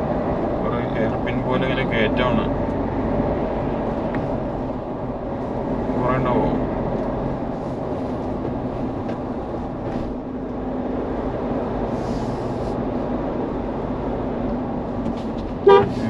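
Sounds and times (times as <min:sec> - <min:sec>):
constant low hum: 0:00.0 - 0:16.0
engine and road noise in a car: 0:00.0 - 0:16.0.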